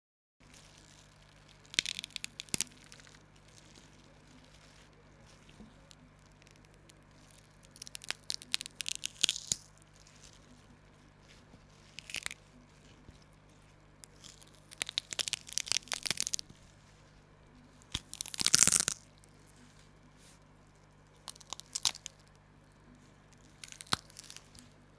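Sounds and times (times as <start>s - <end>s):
material crunching and crinkling: 0.4s - 24.9s.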